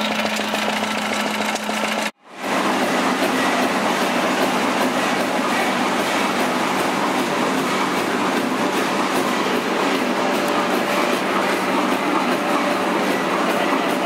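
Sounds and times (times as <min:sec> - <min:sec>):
stationary engine running: 0:00.0 - 0:12.0.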